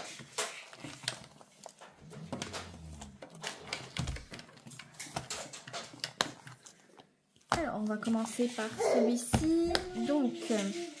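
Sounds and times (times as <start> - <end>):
clicks and taps of handled items: 0.0 - 10.8.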